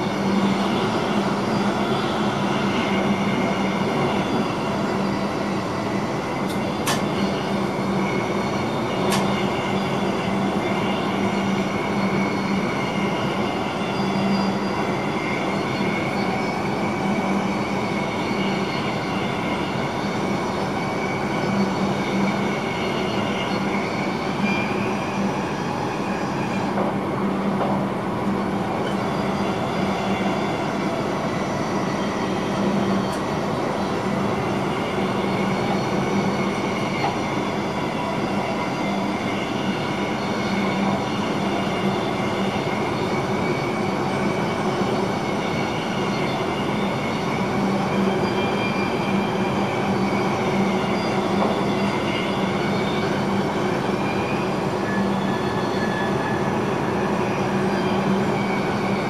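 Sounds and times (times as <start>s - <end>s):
train running noise in cab: 0.0s - 59.0s.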